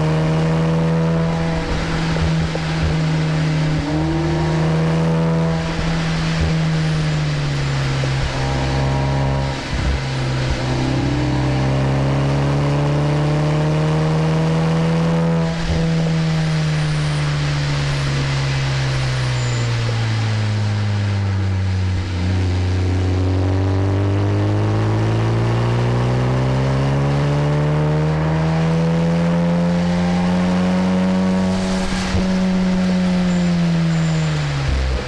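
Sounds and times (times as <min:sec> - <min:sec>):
tyres hissing on wet track: 0:00.0 - 0:23.2, 0:28.2 - 0:35.0
car engine from inside cabin: 0:00.0 - 0:35.0.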